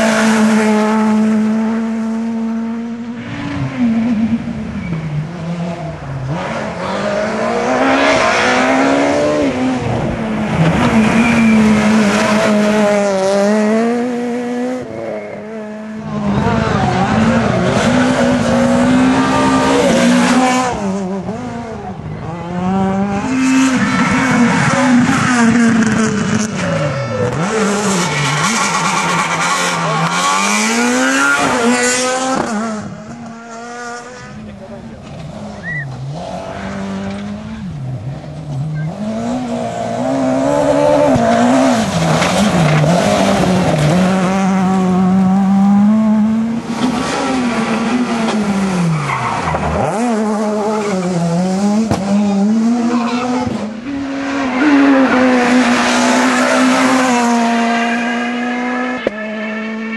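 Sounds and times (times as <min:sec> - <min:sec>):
rally car engines revving high: 0:00.0 - 0:59.9.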